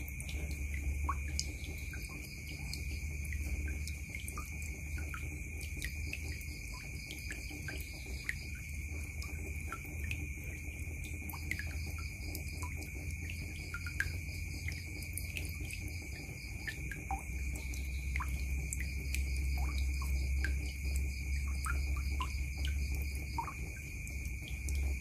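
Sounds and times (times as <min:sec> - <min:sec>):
water dripping into basin: 0:00.0 - 0:25.0.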